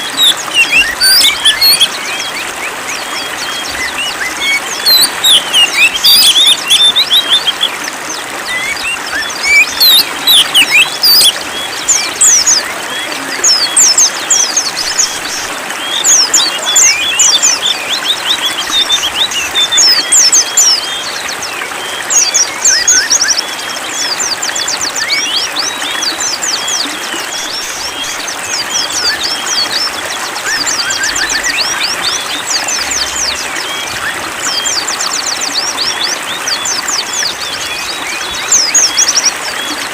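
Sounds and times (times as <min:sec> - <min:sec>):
songbirds chirping and trilling: 0:00.0 - 0:39.9
trickle of running water: 0:00.0 - 0:39.9.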